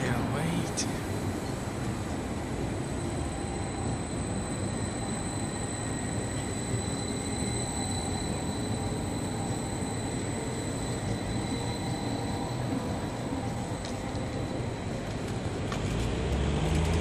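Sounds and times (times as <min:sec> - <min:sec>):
tram wheels running on rail: 0:00.0 - 0:17.0.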